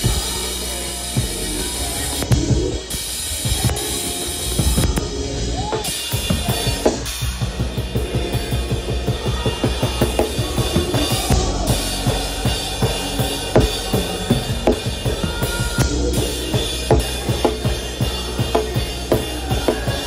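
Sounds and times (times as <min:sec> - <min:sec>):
bass line: 0:00.0 - 0:20.0
drum kit played fast: 0:00.0 - 0:20.0.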